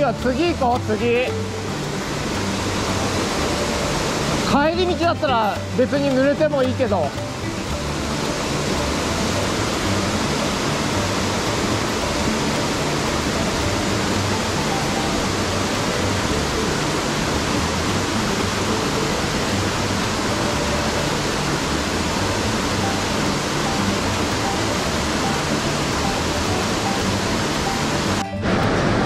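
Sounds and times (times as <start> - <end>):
waterfall rushing: 0.0 - 29.0
white water in a stream: 0.0 - 29.0.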